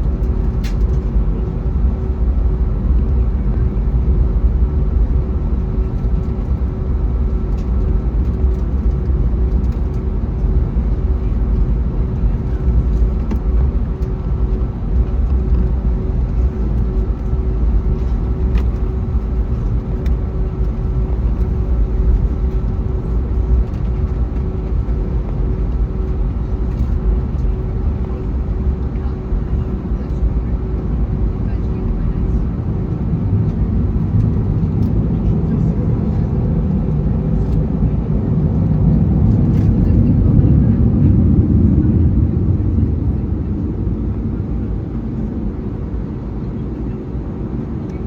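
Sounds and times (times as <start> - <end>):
airplane cabin engine drone: 0.0 - 48.0.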